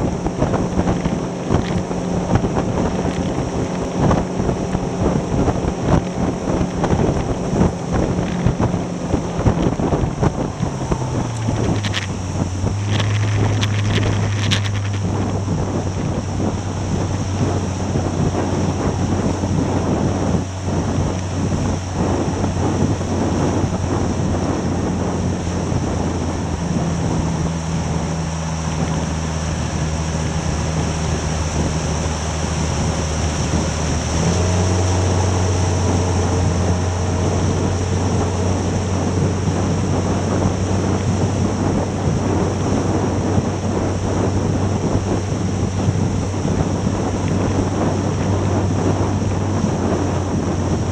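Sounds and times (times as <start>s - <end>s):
faint engine whine: 0.0s - 50.9s
outboard motor running: 0.0s - 50.9s
water rushing past hull: 0.0s - 50.9s
wind on microphone: 0.0s - 50.9s.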